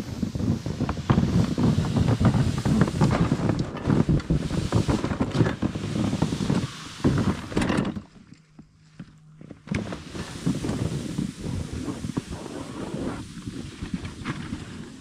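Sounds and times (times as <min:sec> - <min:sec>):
wind buffeting microphone: 0:00.0 - 0:08.0, 0:09.6 - 0:15.0.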